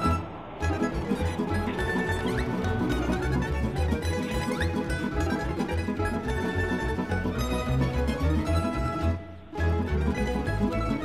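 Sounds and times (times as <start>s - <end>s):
plucked strings music: 0.0s - 11.0s
steady bass: 0.0s - 11.0s.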